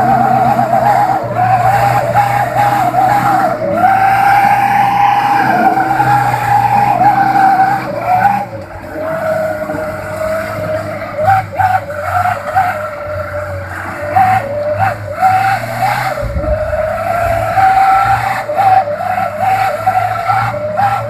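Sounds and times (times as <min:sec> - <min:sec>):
differential whining: 0:00.0 - 0:21.0
truck engine drone: 0:00.0 - 0:21.0.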